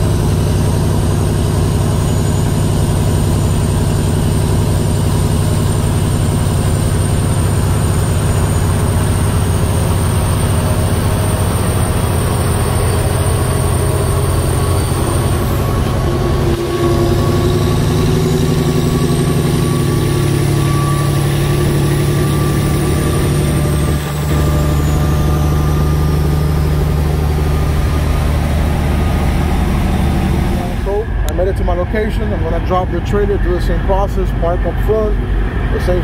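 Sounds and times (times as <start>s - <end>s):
road noise: 0.0s - 36.0s
truck diesel engine drone: 0.0s - 36.0s.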